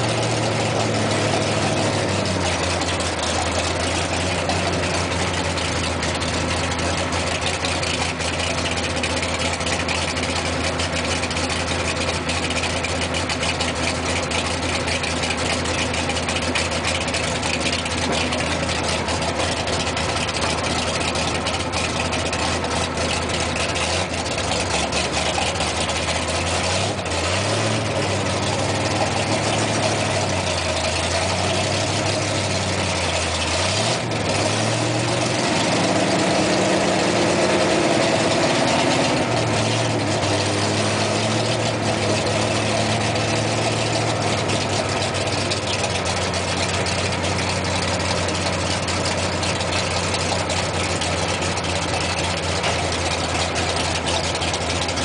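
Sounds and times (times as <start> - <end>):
cab and tyre rumble: 0.0 - 55.0
vehicle engine at low revs: 0.0 - 55.0.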